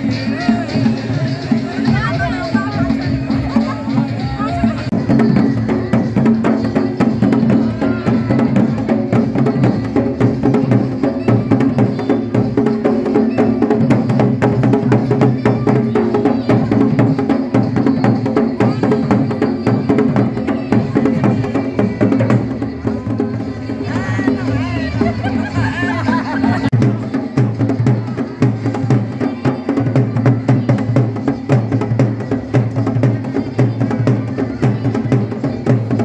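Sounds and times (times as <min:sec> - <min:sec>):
drums playing fast rhythm: 0:00.0 - 0:36.0.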